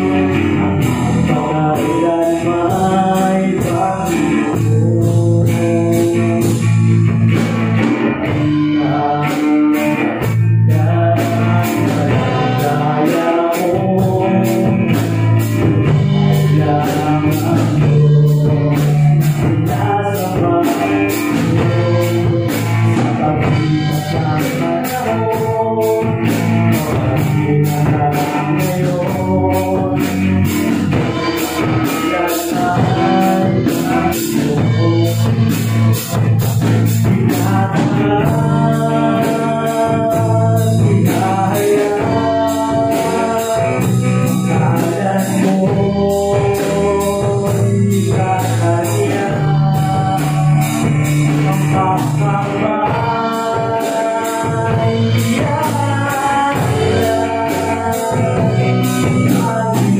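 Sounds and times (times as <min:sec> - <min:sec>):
acoustic guitar: 0:00.0 - 0:59.9
bass guitar: 0:00.0 - 0:59.9
drum kit: 0:00.0 - 0:59.9
man singing: 0:00.0 - 0:59.9.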